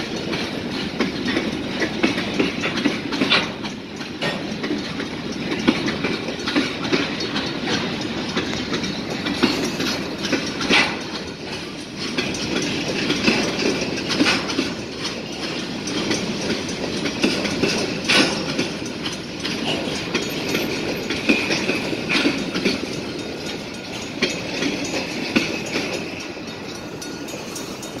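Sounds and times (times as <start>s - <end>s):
train wheels clacking on rail joints: 0.0s - 28.0s
sharp metal clanks: 2.6s - 28.0s.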